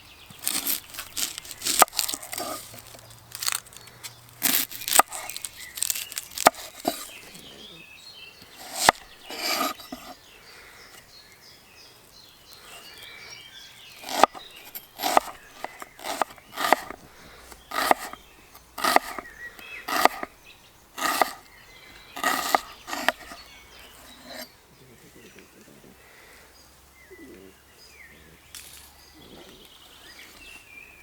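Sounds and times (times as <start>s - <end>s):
birds chirping faintly: 0.0s - 31.0s.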